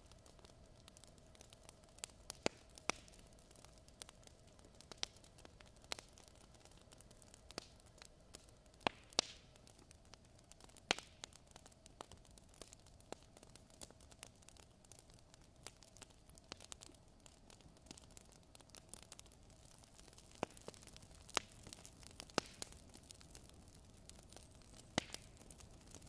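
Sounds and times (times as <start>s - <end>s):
faint hiss: 0.0s - 26.0s
fire crackling: 0.0s - 26.0s.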